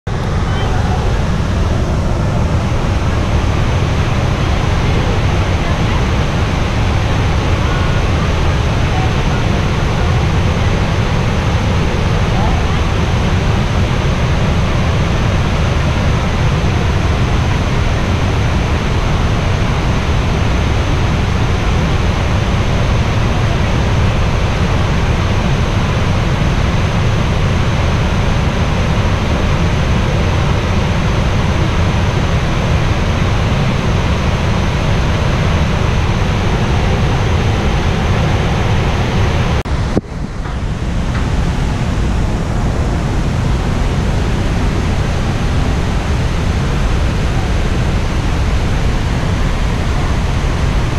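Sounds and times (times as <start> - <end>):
roar of waterfall: 0.1 - 50.9.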